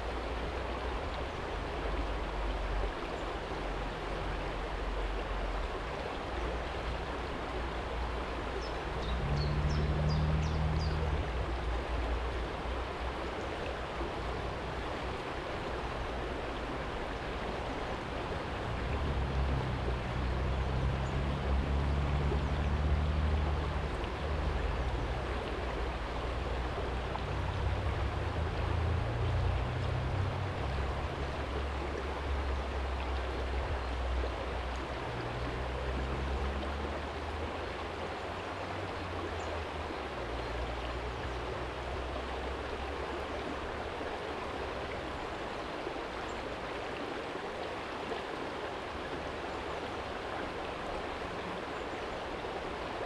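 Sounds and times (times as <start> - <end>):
stream flowing over stones: 0.0 - 53.0.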